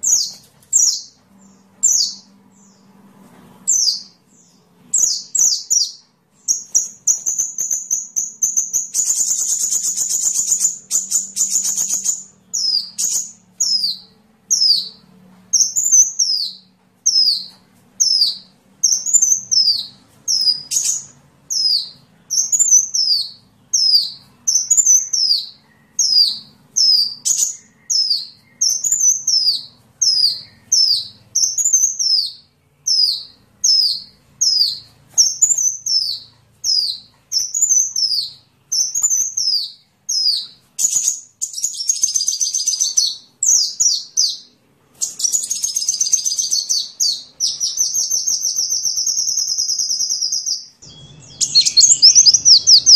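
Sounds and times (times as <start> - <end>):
bird twittering trills: 0.0 - 3.0, 3.6 - 52.9
sunbird singing: 0.0 - 3.0, 3.6 - 52.9.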